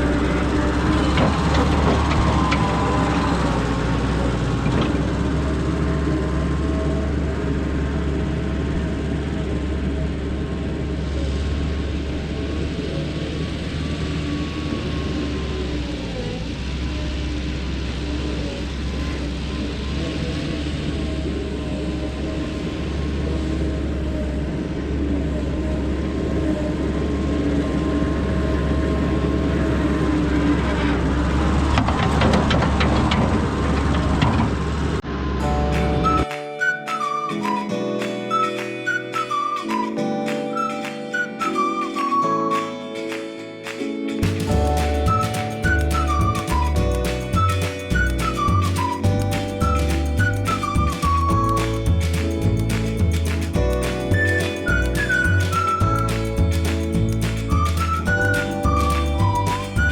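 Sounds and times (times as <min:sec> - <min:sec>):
skid steer engine running: 0:00.0 - 0:36.2, 0:44.2 - 0:59.9.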